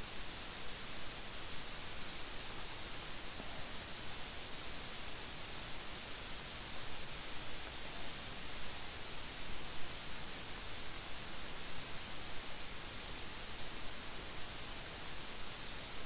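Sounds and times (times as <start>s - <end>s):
recording hiss: 0.0s - 16.0s.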